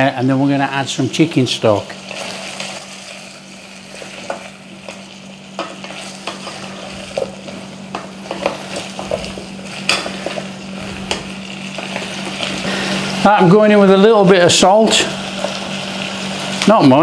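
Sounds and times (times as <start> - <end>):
vegetables sizzling in butter: 0.2 - 17.0.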